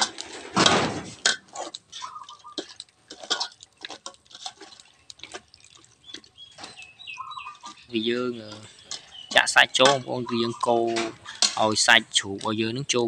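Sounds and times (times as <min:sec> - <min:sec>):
metal spoon scraping a metal pot: 0:00.0 - 0:00.5, 0:01.1 - 0:06.9, 0:07.5 - 0:11.8.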